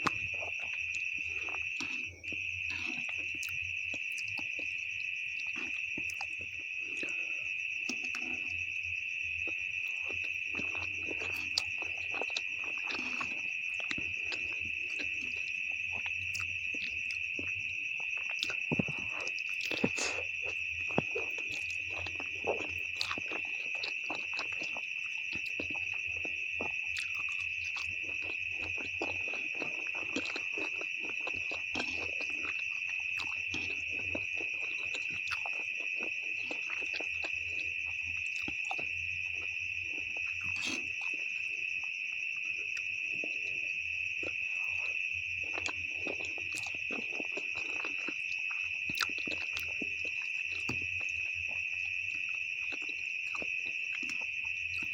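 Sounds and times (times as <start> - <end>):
close-miked chewing and mouth clicks: 0.0 - 54.9.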